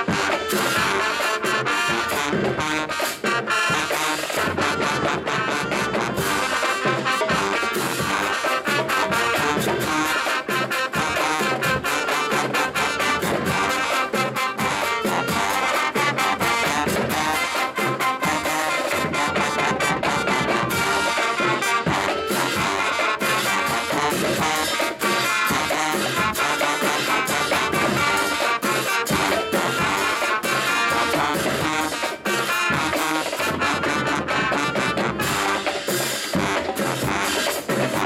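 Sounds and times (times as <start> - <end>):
brass section of trombones and trumpets: 0.0 - 38.0
drum strikes: 0.0 - 38.0
marching band playing: 0.0 - 38.0.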